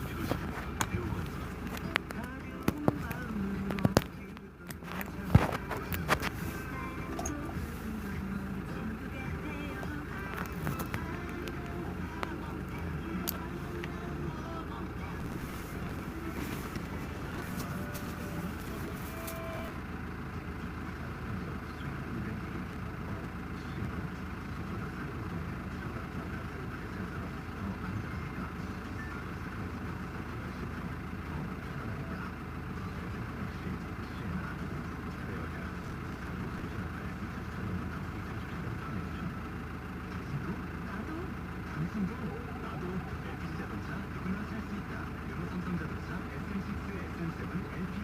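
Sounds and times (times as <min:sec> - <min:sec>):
road noise: 0:00.0 - 0:48.0
vehicle engine rumble: 0:00.0 - 0:48.0.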